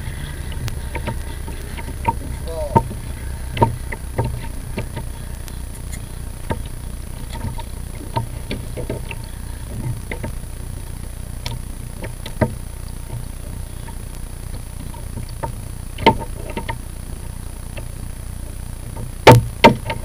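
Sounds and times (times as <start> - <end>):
choppy water: 0.0 - 20.0
wind rumble: 0.0 - 20.0.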